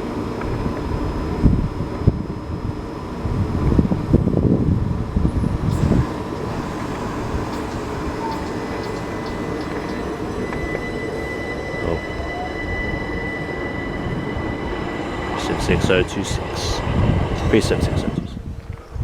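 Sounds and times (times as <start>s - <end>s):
high whine: 0.6s - 18.7s
train wheels rumbling on rail: 3.1s - 19.0s.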